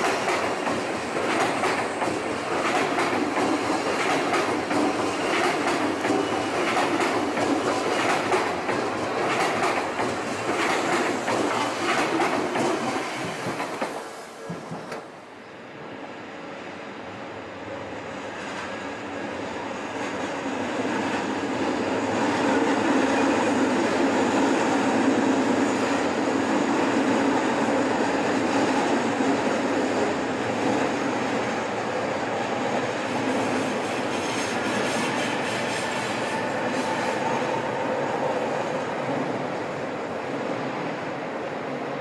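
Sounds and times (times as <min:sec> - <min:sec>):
train wheels rumbling on rails: 0:00.0 - 0:16.6, 0:17.4 - 0:42.0.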